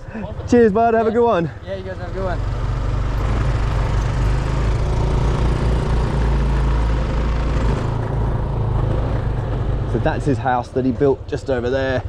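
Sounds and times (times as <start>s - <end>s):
moped engine running: 1.6s - 12.0s.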